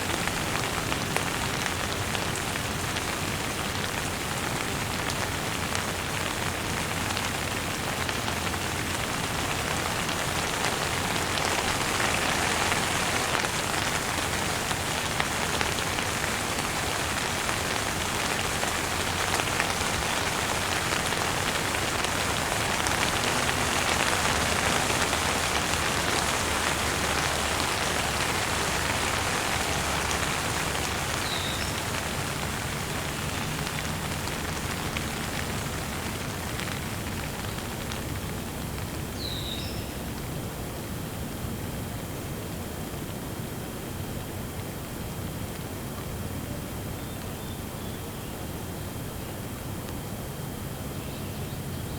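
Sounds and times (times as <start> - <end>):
light rain pattering: 0.0 - 51.9.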